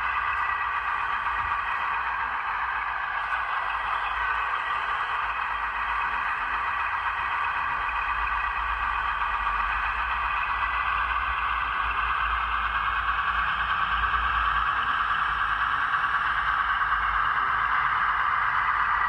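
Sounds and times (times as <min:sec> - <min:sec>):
diesel engine through small speaker: 0:00.0 - 0:19.0.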